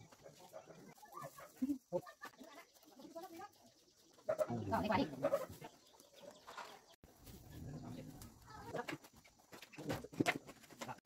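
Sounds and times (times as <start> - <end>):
birds calling: 0.0 - 9.9
chickens clucking: 0.0 - 11.0.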